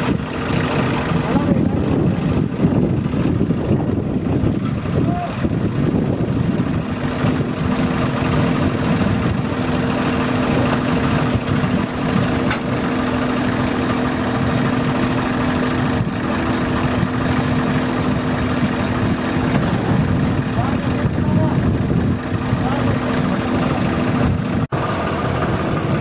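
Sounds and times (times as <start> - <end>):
combine harvester engine humming: 0.0 - 26.0.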